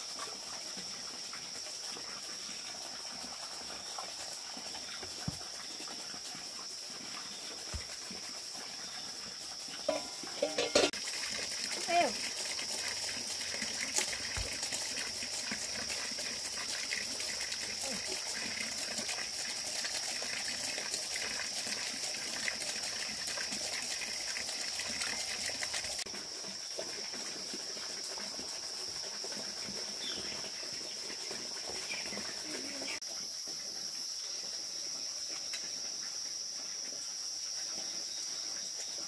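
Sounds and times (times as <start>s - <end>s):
crickets chirping: 0.0s - 23.1s, 24.0s - 39.0s.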